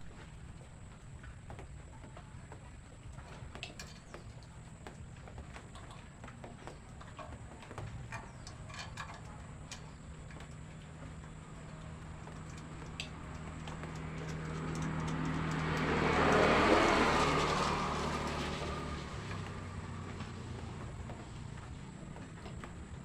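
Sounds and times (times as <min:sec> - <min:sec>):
light clicks and taps: 0:00.0 - 0:23.0
low steady hum: 0:00.0 - 0:23.0.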